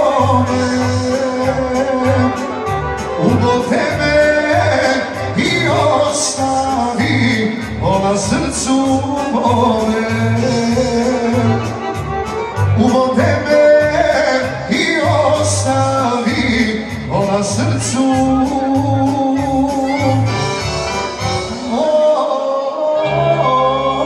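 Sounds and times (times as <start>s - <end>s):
man singing into microphone: 0.0s - 20.6s, 21.2s - 24.0s
electronic keyboard: 0.0s - 24.0s.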